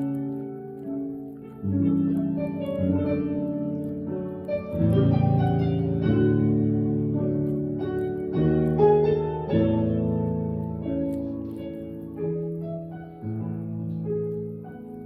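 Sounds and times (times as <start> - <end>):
piano playing sustained chords: 0.0 - 15.0.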